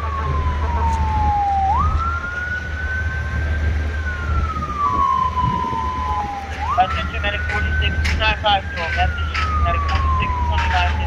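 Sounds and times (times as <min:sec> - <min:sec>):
ambulance siren wailing: 0:00.0 - 0:11.0
steady lower siren tone: 0:00.0 - 0:11.0
vehicle engine and road rumble: 0:00.0 - 0:11.0.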